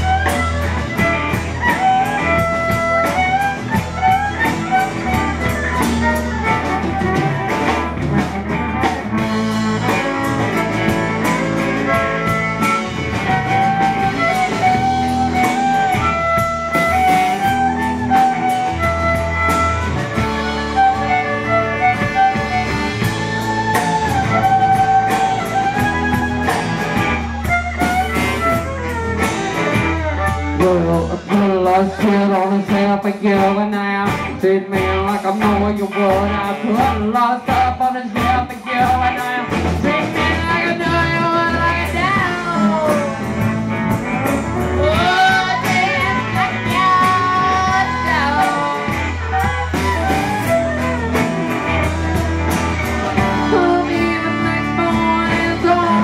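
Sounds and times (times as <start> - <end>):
saxophone: 0.0 - 32.5, 37.6 - 56.0
drum kit: 0.0 - 56.0
electric guitars: 0.0 - 56.0
fiddle: 0.0 - 56.0
steady bass line: 0.0 - 56.0.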